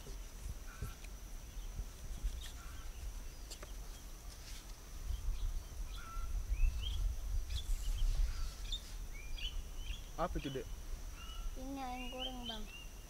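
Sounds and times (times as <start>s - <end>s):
wind rumble on microphone: 0.0s - 11.6s
small birds chirping: 0.0s - 13.0s.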